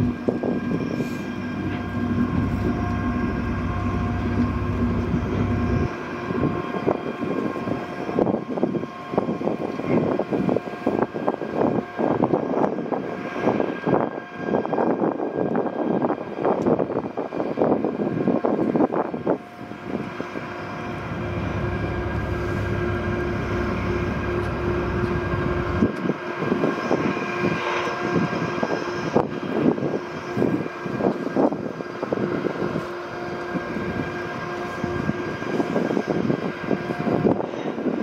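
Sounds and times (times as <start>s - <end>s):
diesel locomotive engine droning: 0.0s - 38.0s.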